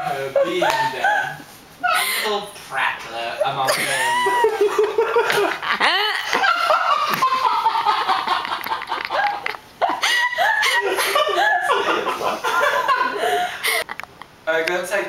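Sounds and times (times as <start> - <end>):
people laughing hard: 0.1 - 2.2, 3.4 - 13.9.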